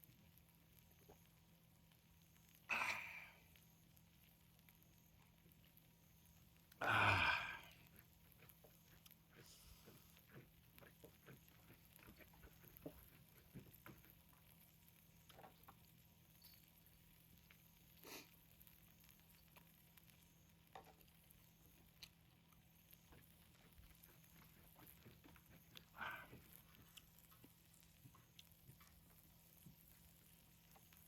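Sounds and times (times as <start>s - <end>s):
faint small clicks and taps: 0.0s - 2.7s, 7.8s - 31.0s.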